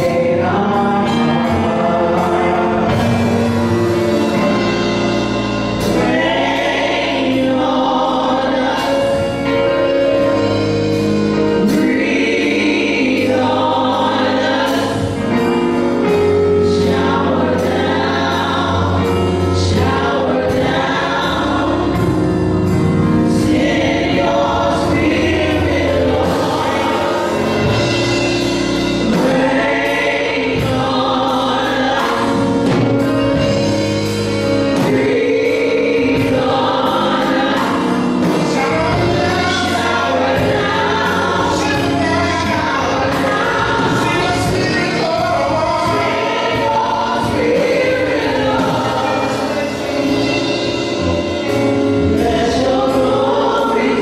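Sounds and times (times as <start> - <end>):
women singing together: 0.0 - 3.6, 5.8 - 9.5, 11.6 - 15.4, 16.1 - 22.2, 23.2 - 28.1, 29.0 - 32.7, 34.8 - 51.2, 52.0 - 54.0
live band playing: 0.0 - 54.0.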